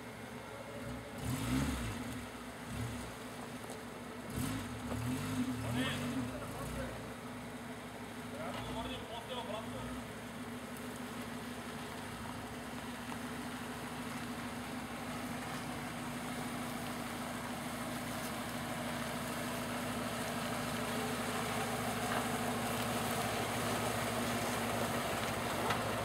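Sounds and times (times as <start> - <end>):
vehicle engine at low revs: 0.0 - 26.0.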